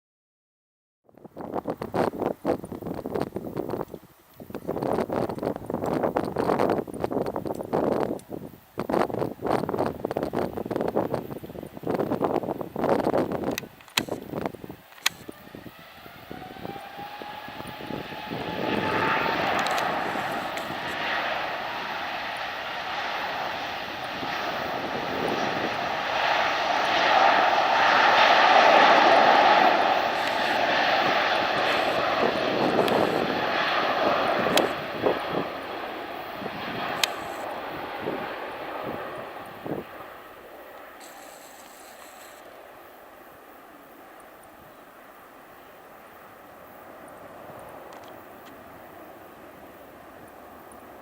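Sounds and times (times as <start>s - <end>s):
jetliner taking off: 1.2s - 51.0s.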